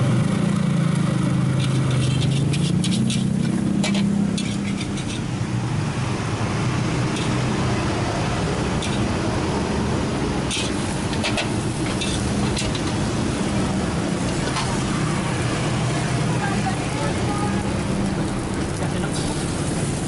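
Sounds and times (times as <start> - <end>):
low street noise rumble: 0.0 - 20.0.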